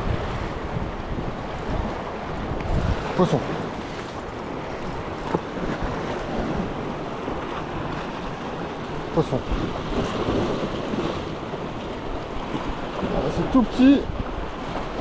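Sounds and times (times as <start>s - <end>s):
sea waves washing against rocks: 0.0s - 15.0s
wind buffeting microphone: 0.0s - 15.0s.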